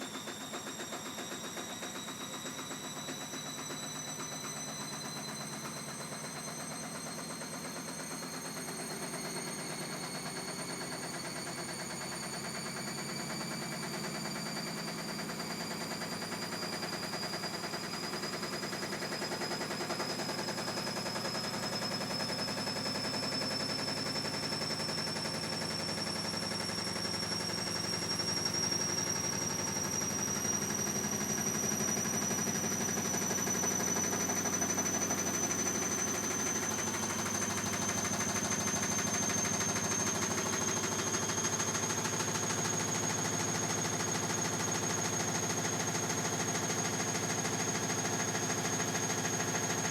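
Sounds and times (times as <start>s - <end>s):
washing machine motor whine: 0.0s - 49.9s.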